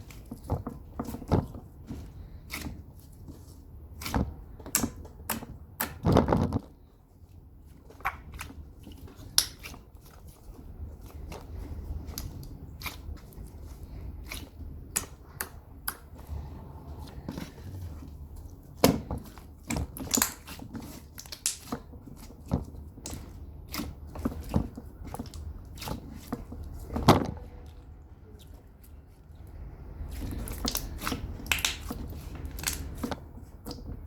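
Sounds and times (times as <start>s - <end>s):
slime squishing and crackling: 0.0s - 34.0s.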